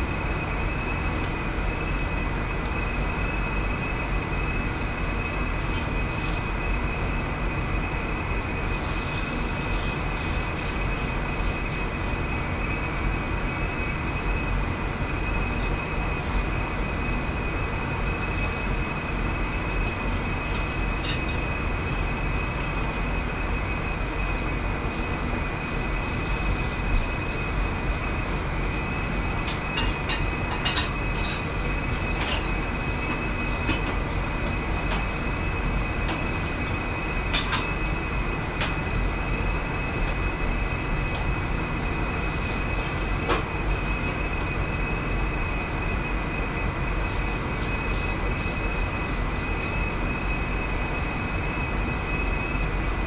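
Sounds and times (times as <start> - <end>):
exhaust hood and gas range roar: 0.0 - 53.0
high whine: 0.0 - 53.0.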